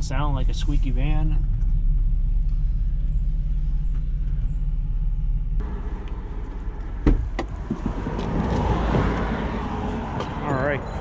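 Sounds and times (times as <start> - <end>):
van engine rumble: 0.0 - 11.0.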